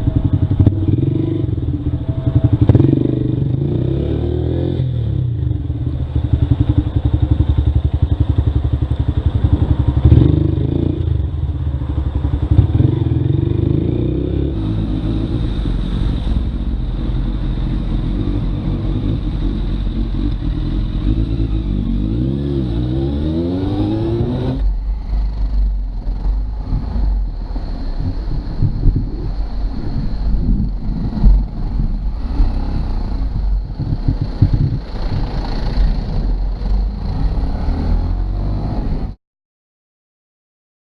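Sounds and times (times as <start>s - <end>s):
motorcycle engine running: 0.0s - 3.8s, 5.2s - 22.2s, 23.7s - 37.5s
wind rumble on microphone: 0.0s - 39.2s.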